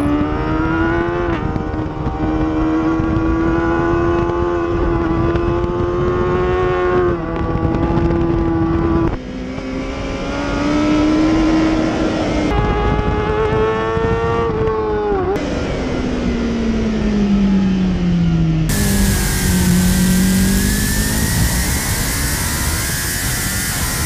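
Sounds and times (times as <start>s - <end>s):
racing motorcycle engine revving: 0.0s - 24.0s.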